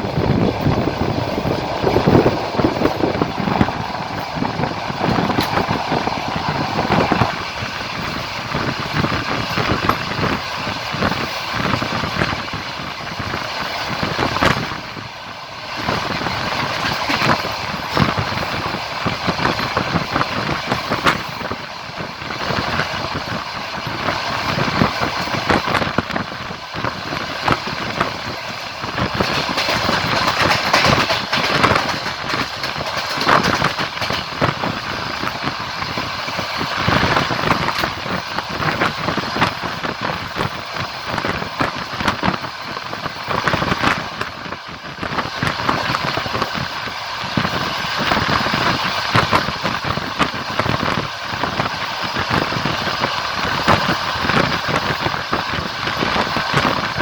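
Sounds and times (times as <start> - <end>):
train wheels rolling on rails: 0.0 - 57.0
wheels clattering over rail joints: 0.0 - 57.0.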